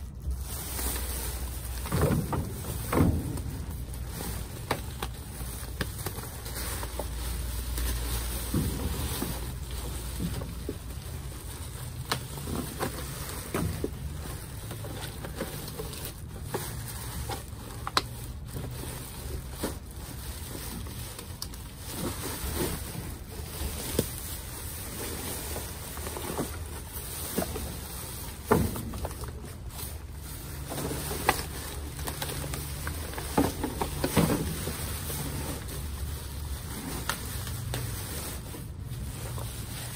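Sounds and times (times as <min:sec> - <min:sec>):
rummaging through trash: 0:00.0 - 0:39.9.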